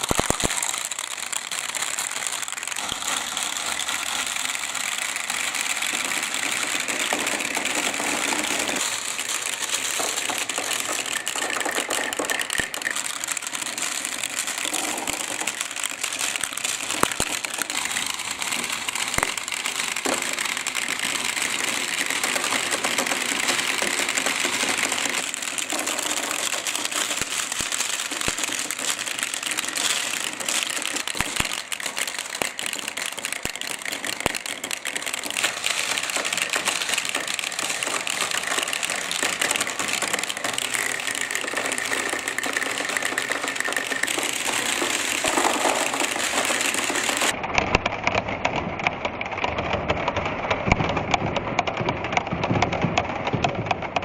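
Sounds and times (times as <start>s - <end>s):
balls clicking against track: 0.0s - 54.0s
water running down marble track: 0.0s - 54.0s.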